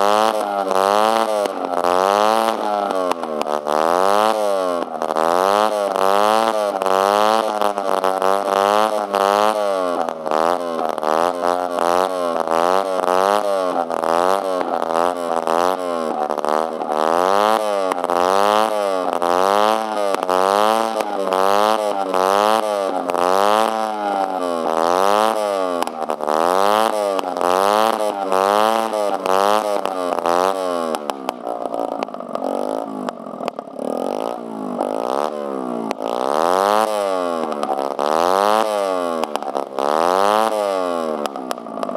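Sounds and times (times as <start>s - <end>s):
scooter engine revving: 0.0s - 41.9s.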